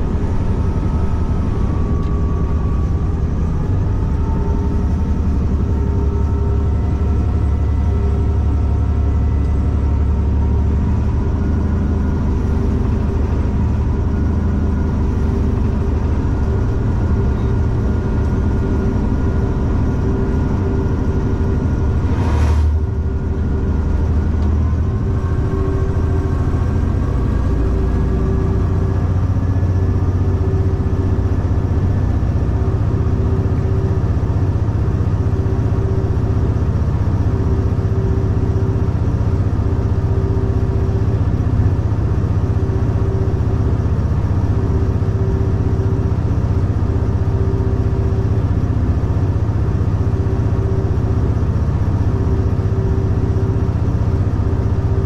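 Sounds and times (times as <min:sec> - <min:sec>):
diesel engine deep drone: 0:00.0 - 0:55.0
faint whine: 0:00.0 - 0:55.0
mid-pitched hum: 0:00.0 - 0:55.0.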